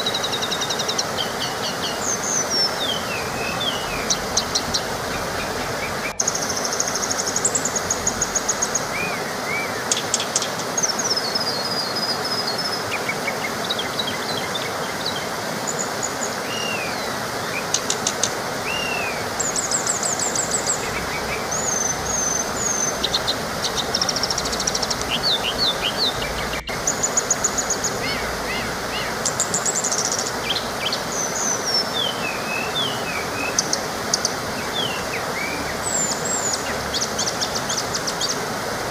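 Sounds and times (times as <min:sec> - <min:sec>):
small waterfall rushing: 0:00.0 - 0:38.9
songbirds chirping and trilling: 0:00.0 - 0:38.9.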